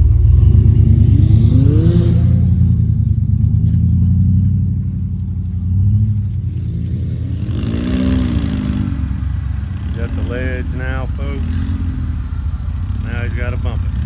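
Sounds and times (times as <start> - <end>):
truck engine rumbling and revving: 0.0 - 14.0.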